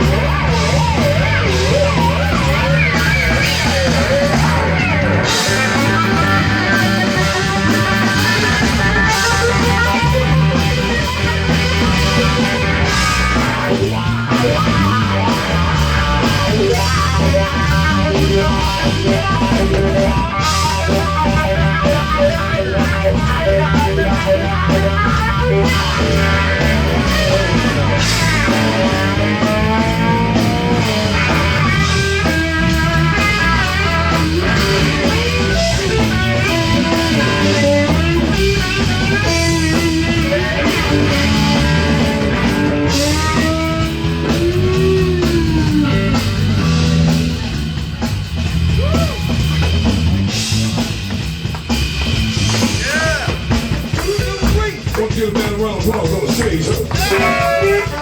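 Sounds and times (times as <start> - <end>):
electric guitar lead: 0.0 - 58.0
live rock band playing: 0.0 - 58.0.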